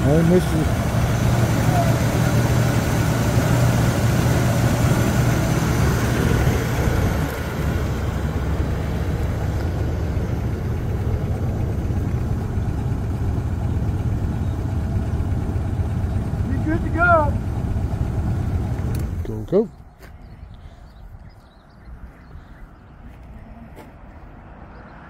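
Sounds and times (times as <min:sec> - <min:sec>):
car engine idling: 0:00.0 - 0:24.8.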